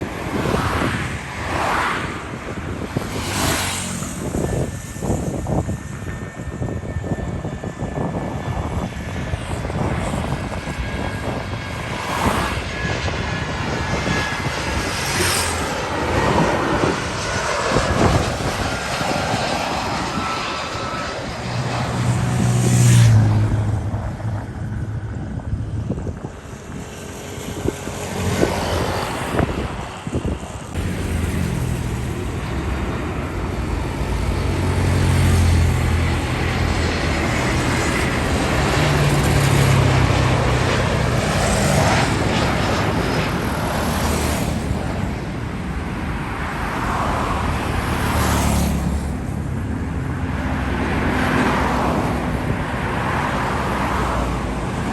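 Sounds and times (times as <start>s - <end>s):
jet engine rumble: 0.0s - 54.9s
road traffic: 0.0s - 54.9s.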